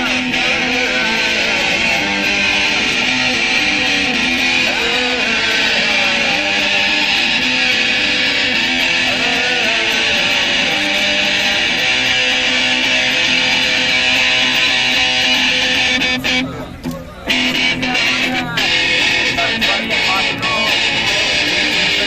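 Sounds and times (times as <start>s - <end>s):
electric guitar strumming chords: 0.0s - 22.0s.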